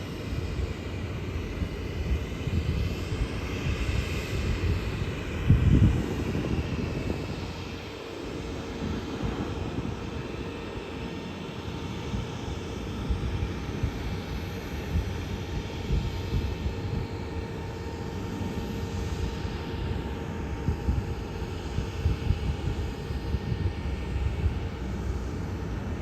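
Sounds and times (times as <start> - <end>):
faint jet whine: 0.0 - 26.0
jet engine rumble: 0.0 - 26.0.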